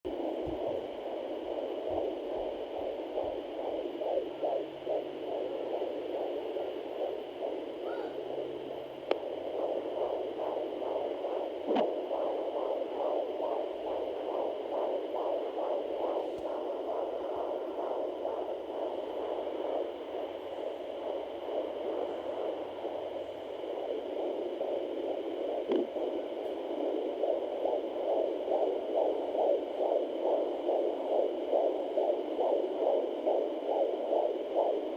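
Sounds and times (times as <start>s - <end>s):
fetal heartbeat pulsing swish: 0.1s - 34.9s.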